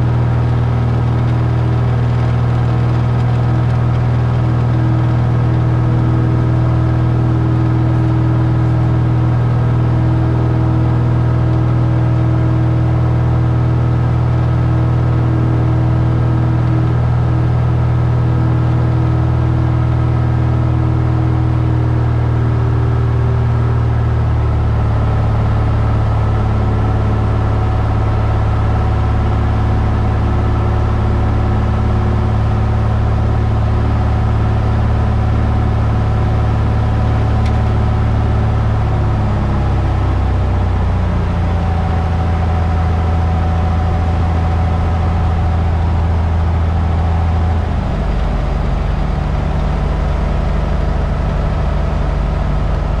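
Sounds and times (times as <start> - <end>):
airplane engine and propeller droning: 0.0 - 53.0.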